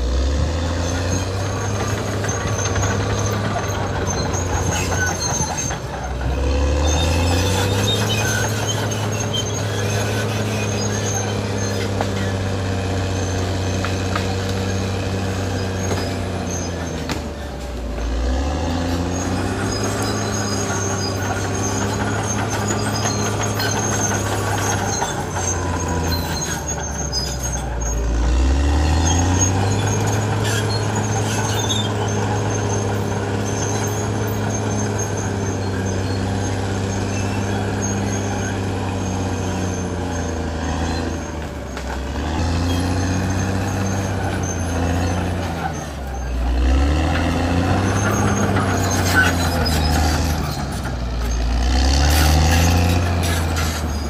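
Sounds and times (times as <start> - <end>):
bulldozer diesel engine running hard: 0.0 - 54.0.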